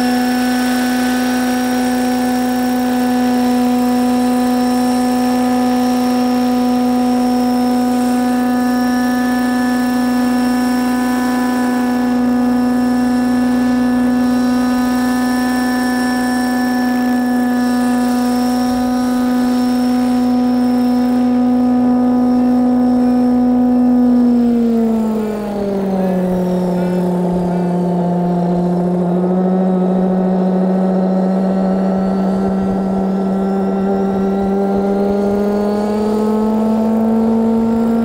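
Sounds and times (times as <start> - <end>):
model helicopter engine drone: 0.0 - 38.0.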